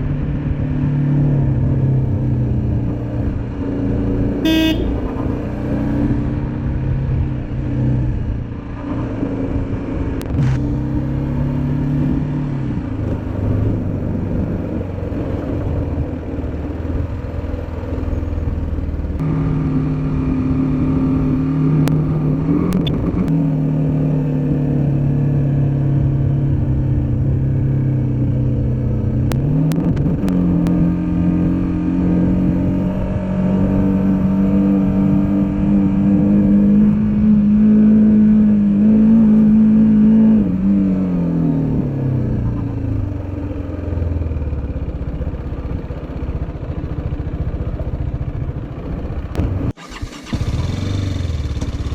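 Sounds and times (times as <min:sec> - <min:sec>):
motorcycle engine running: 0:00.0 - 0:39.5, 0:41.8 - 0:51.9.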